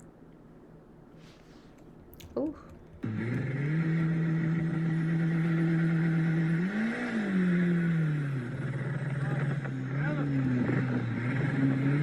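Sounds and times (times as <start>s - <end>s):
road noise: 1.3s - 12.0s
car engine running: 1.9s - 12.0s.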